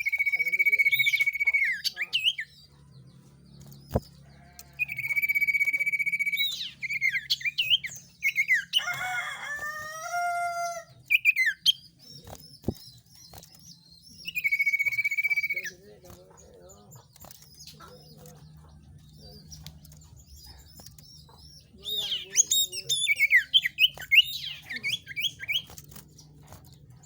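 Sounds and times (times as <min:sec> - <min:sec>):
songbird trilling and whistling: 0:00.0 - 0:27.0.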